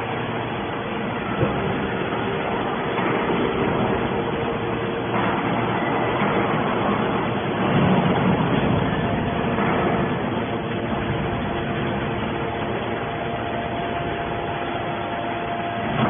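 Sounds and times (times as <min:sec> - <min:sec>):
hydraulic baler humming: 0:00.0 - 0:16.0.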